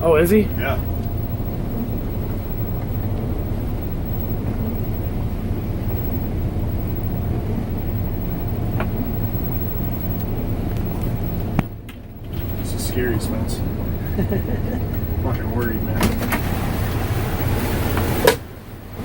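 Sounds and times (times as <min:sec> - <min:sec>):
motorhome engine droning: 0:00.0 - 0:19.0.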